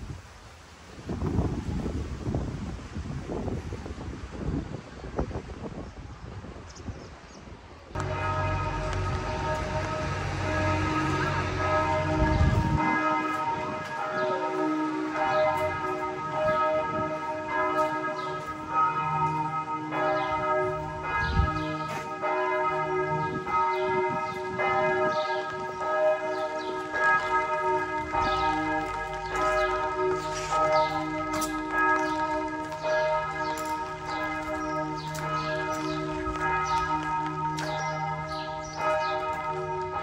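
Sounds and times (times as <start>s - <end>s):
church bells pealing: 7.9s - 40.0s.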